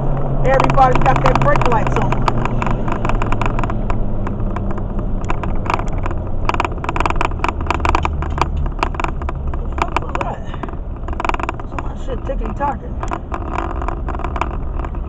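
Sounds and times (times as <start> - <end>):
car road and engine drone: 0.0 - 15.0.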